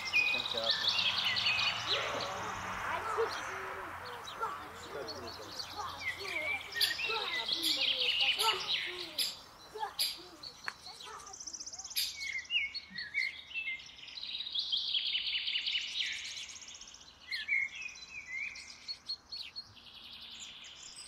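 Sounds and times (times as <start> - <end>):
songbirds singing and chirping: 0.0 - 21.0.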